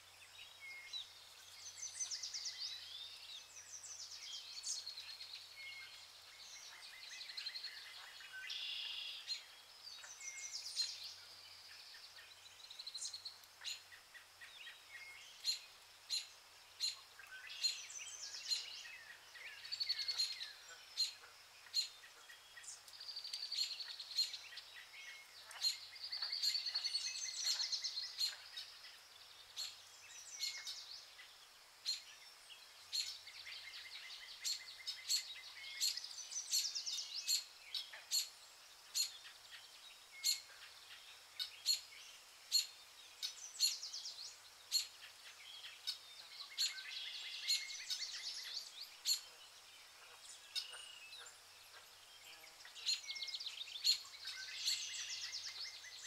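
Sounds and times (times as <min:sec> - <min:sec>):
birds trilling song: 0:00.0 - 0:56.0
birds chirping: 0:00.2 - 0:56.0.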